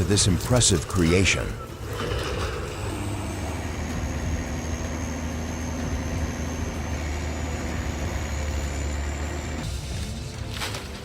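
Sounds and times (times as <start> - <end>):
wood-cutting machine humming: 0.0 - 11.0.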